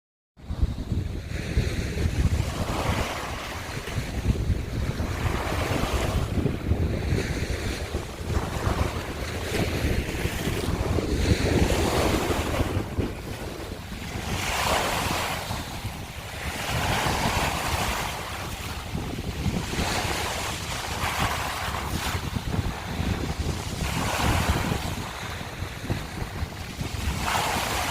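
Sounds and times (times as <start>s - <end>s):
wind buffeting microphone: 0.4s - 27.9s.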